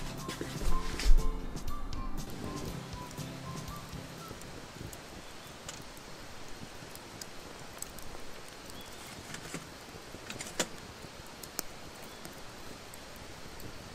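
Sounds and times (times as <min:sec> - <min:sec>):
campfire crackling and popping: 0:00.0 - 0:13.9
steady fire hiss: 0:00.0 - 0:13.9.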